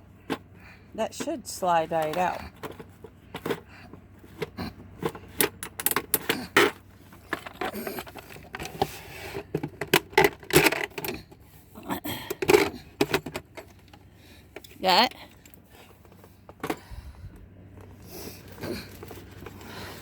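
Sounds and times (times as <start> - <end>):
small metallic rattles: 0.1 - 17.0.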